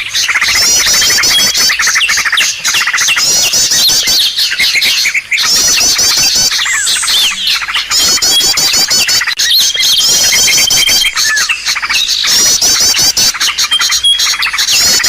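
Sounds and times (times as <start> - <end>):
songbirds chattering trills: 0.0 - 15.0.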